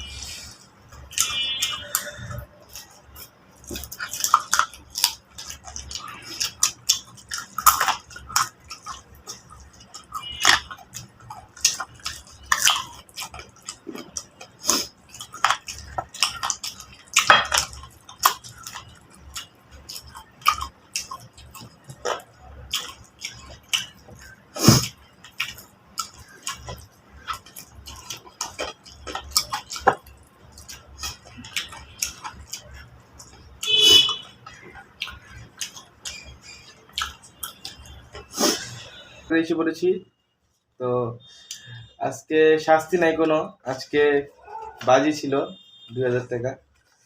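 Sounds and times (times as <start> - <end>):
person chewing: 0.0 - 39.3.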